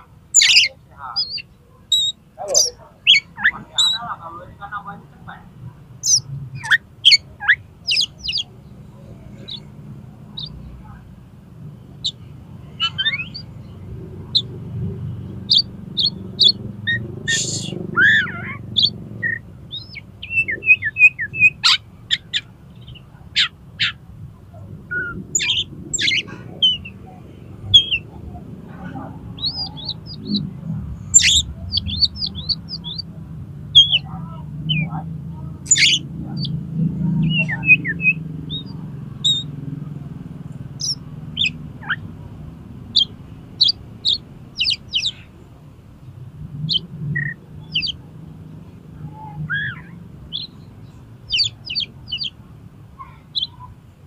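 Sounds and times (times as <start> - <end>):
bird singing chirps and trills: 0.0 - 5.4, 6.0 - 11.0, 11.6 - 24.0, 24.6 - 42.2, 42.8 - 45.6, 46.6 - 54.0.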